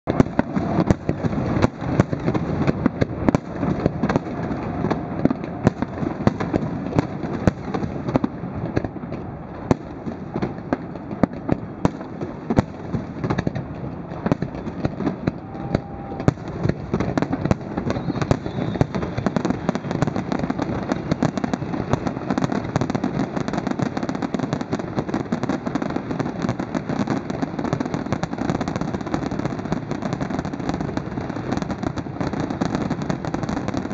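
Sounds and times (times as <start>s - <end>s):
fireworks bangs and crackle: 0.0s - 33.9s.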